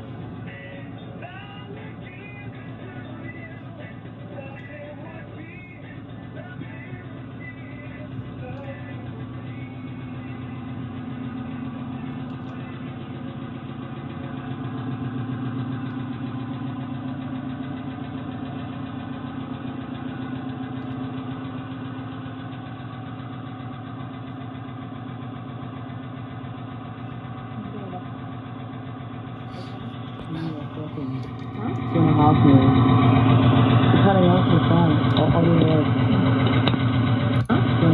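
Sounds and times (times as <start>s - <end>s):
car engine idling with knocking: 0.0s - 37.9s.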